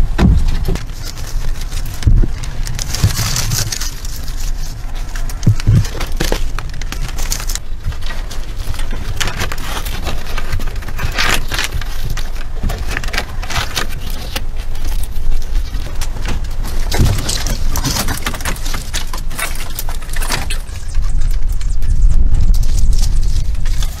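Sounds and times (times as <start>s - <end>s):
sticks rustling and knocking: 0.0s - 24.0s.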